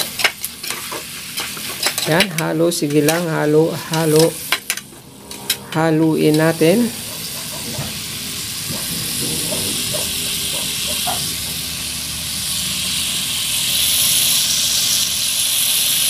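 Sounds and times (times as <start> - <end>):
meat sizzling in hot oil: 0.0 - 5.6, 6.3 - 16.0.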